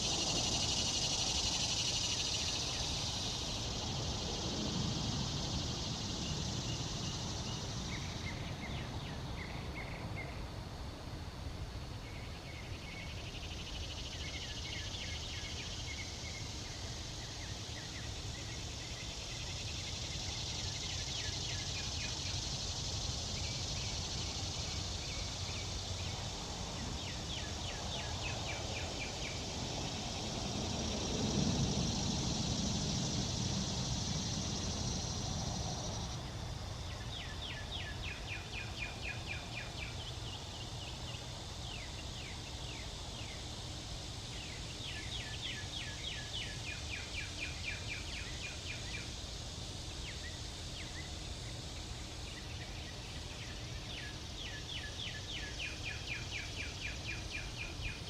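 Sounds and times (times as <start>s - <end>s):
bird singing rapid trills: 0.0s - 10.4s, 11.9s - 58.0s
high insect drone: 0.0s - 58.0s.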